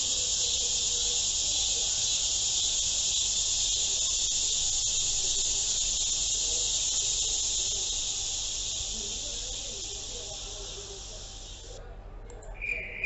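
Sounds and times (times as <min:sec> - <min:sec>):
insect chorus buzzing: 0:00.0 - 0:11.8, 0:12.6 - 0:13.0.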